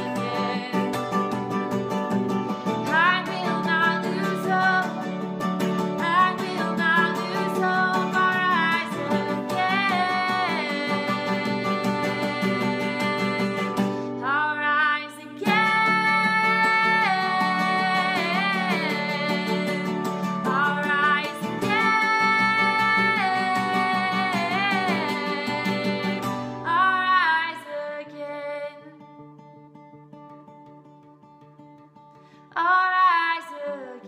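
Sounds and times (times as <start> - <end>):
woman singing: 0.0 - 31.6, 32.4 - 34.0
strummed acoustic guitar: 0.0 - 34.0.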